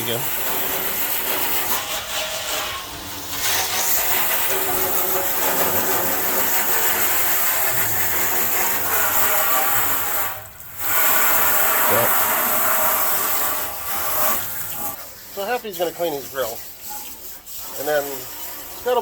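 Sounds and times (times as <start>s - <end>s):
hose water spraying hard: 0.0s - 19.0s.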